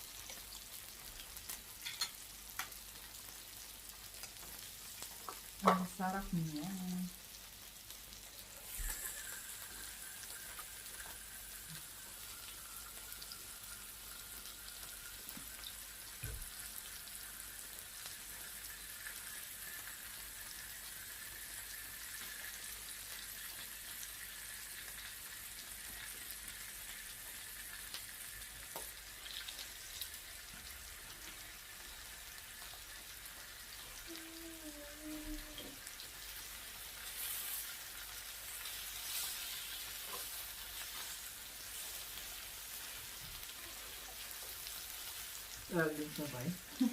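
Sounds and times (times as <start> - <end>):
meat sizzling on a grill: 0.0 - 46.9.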